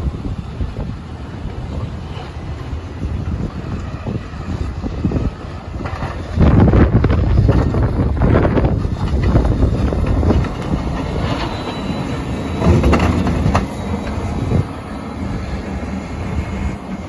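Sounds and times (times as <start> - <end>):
diesel engine under load: 0.0 - 17.0
plow blade scraping road: 0.0 - 17.0.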